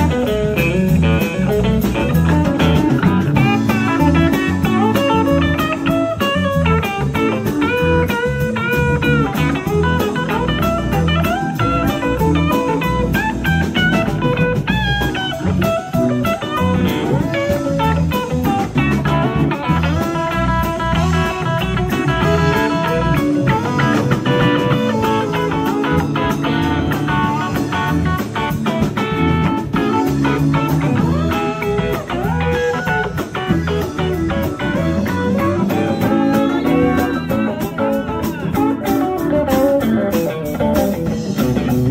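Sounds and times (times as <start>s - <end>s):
bass: 0.0s - 41.9s
drums: 0.0s - 41.9s
electric guitar solo: 0.0s - 41.9s
keyboards: 0.0s - 41.9s.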